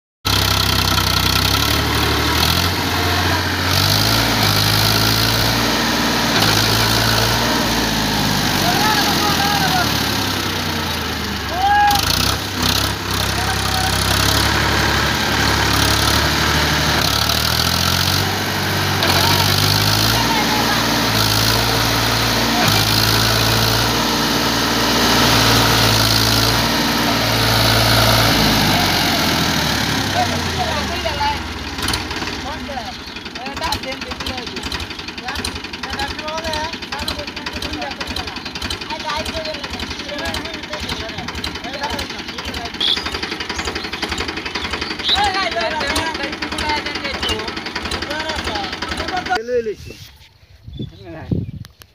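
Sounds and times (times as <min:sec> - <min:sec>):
tractor diesel engine running: 0:00.2 - 0:49.7.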